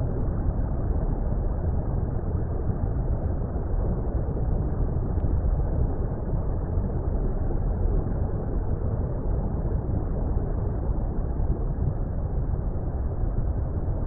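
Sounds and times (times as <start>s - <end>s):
deep muffled water rumble: 0.0s - 14.0s.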